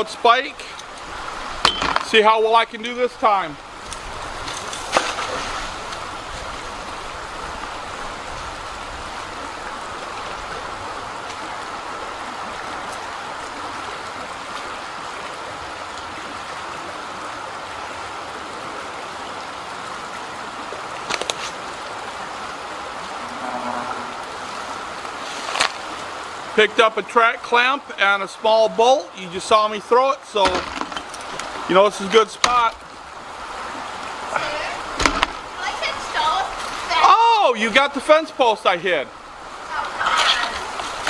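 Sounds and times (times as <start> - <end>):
creek running over rocks: 0.0 - 41.0.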